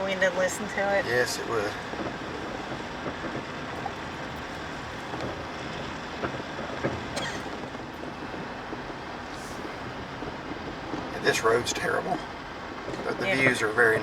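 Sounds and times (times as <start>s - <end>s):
tyres rumbling on road: 0.0s - 14.0s.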